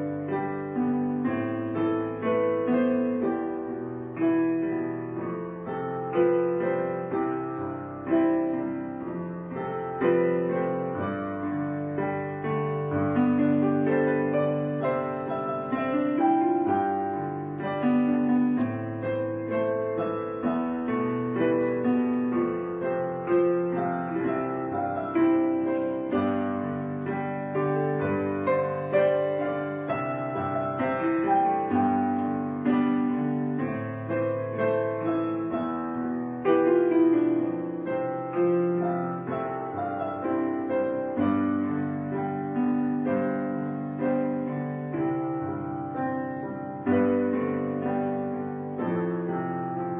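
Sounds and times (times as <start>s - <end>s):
piano music: 0.0s - 49.9s.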